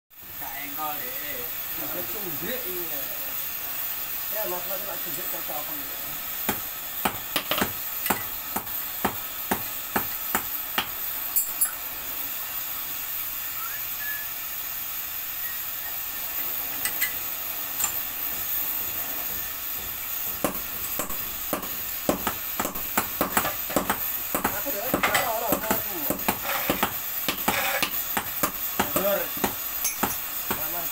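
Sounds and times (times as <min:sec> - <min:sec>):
steady hiss: 0:00.1 - 0:30.9.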